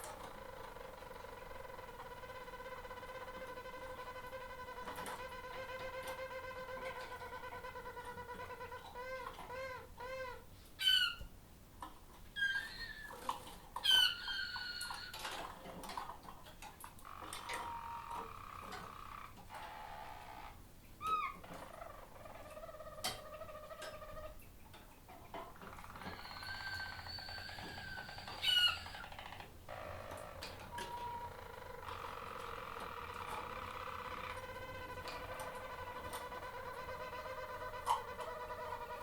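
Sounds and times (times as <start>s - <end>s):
canary singing: 0.0s - 11.3s, 12.4s - 15.5s, 17.0s - 24.6s, 25.3s - 39.0s.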